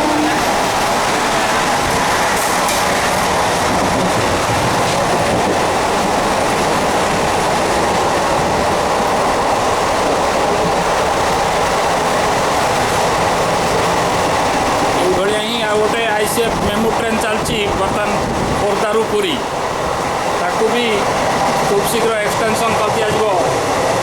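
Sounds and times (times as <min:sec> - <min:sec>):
electric train wheels rattling on rails: 0:00.0 - 0:24.0.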